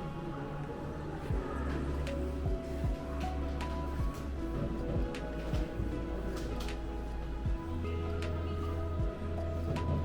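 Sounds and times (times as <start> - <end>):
music with long held tones: 0.0 - 10.0
steady low rumble: 0.0 - 10.0.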